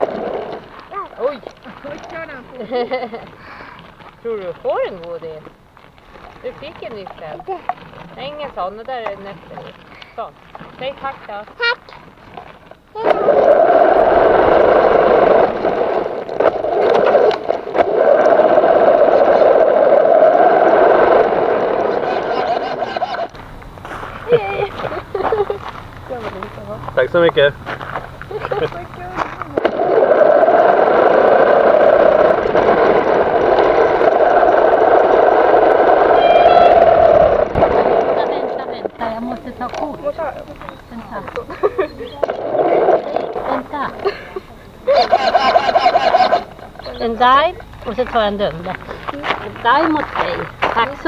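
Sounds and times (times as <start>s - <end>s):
rc car tyres on gravel: 0.0s - 51.0s.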